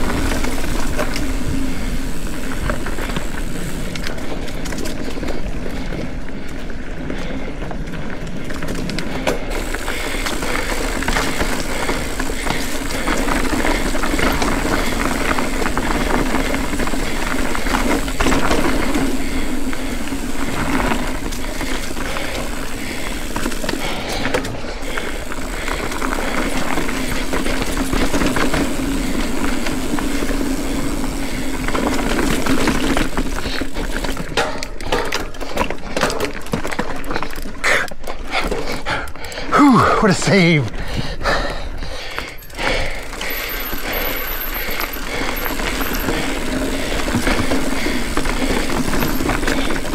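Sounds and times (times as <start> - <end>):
mountain bike rattling on trail: 0.0 - 49.9.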